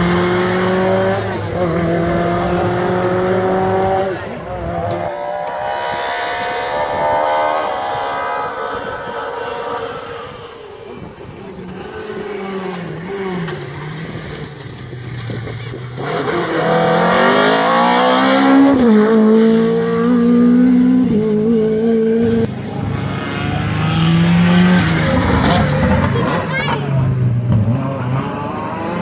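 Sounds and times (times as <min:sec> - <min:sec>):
rally car engine accelerating hard: 0:00.0 - 0:29.0.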